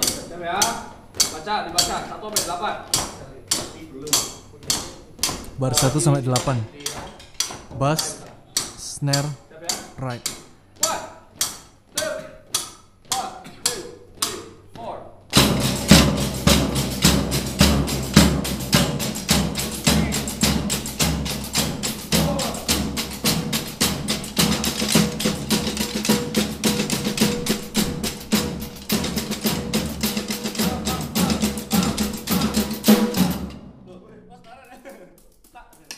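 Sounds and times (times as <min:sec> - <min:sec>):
drum ensemble playing: 0:00.0 - 0:10.8, 0:15.3 - 0:34.1.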